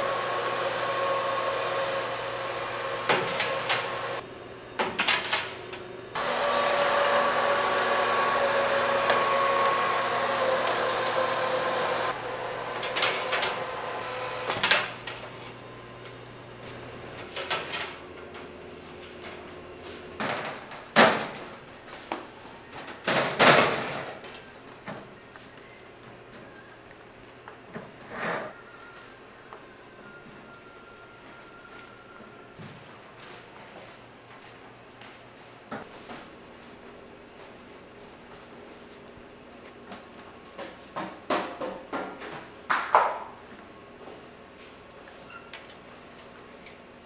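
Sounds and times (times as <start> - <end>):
oven fan humming: 0.0 - 47.0.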